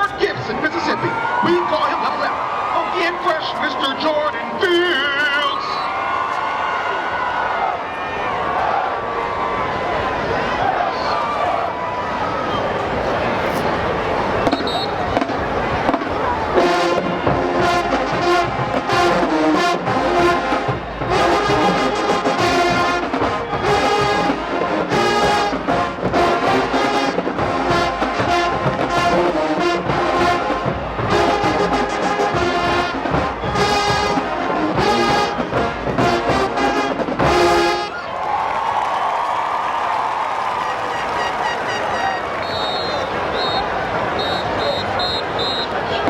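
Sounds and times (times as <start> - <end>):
marching band brass: 0.0 - 46.0.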